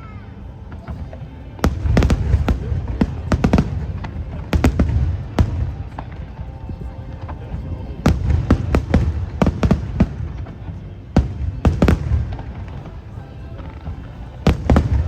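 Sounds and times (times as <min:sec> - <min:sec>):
fireworks bursting: 0:00.3 - 0:15.0.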